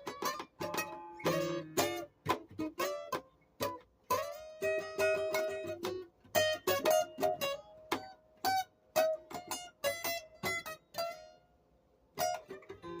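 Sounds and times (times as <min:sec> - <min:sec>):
plucked string instrument: 0:00.0 - 0:11.5, 0:12.1 - 0:13.0.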